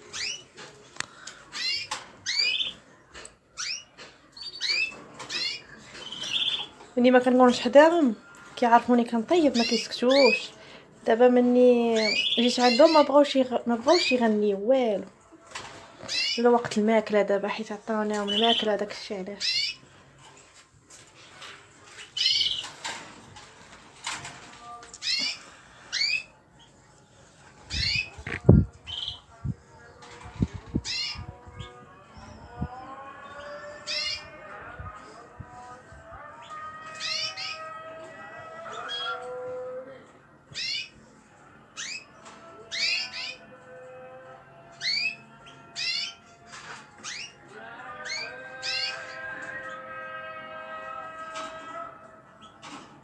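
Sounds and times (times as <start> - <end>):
cage birds chirping: 0.0 - 53.0.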